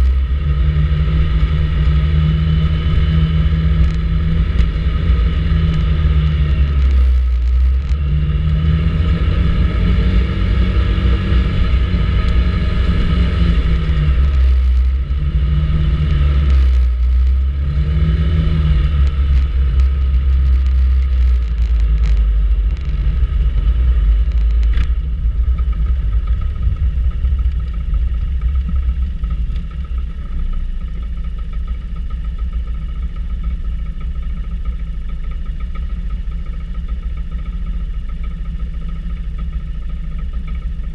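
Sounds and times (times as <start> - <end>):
scooter engine rumbling: 0.0 - 40.9.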